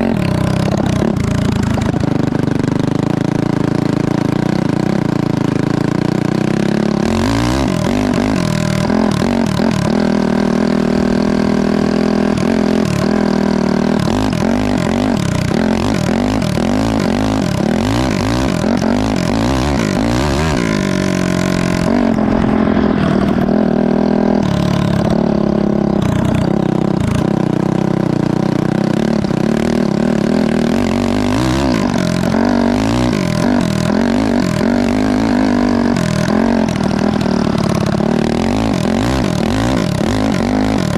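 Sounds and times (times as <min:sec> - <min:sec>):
go-kart engine revving: 0:00.0 - 0:40.9.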